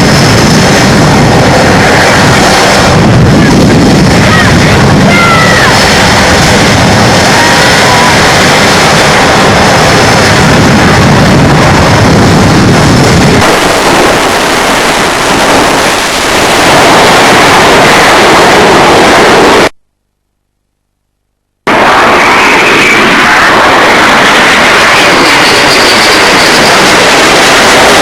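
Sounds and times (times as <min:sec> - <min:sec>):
fighter jet engines roaring: 0:00.0 - 0:19.7, 0:21.7 - 0:28.0.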